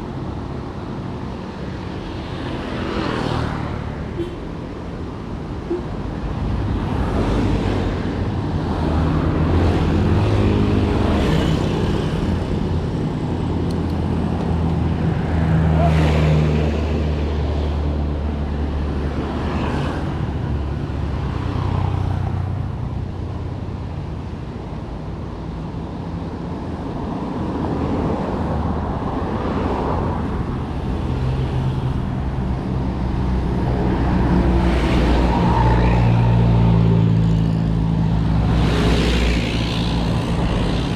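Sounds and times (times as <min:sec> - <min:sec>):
vehicles passing close by: 0:00.0 - 0:40.9.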